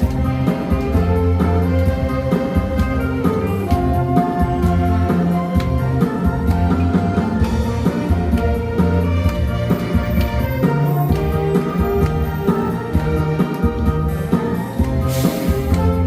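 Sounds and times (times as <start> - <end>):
drum kit beat: 0.0 - 16.0
orchestra playing pop arrangement: 0.0 - 16.0.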